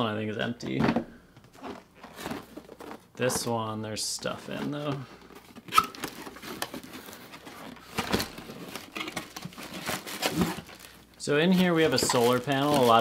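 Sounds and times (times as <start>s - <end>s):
cardboard and paper rustling: 1.5s - 3.6s, 4.2s - 13.0s.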